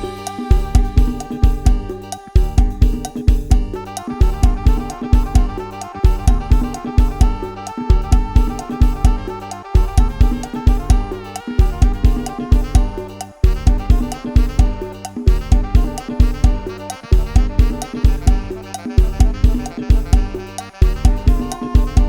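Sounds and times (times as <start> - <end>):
instrumental music with drums and bass: 0.0 - 22.0.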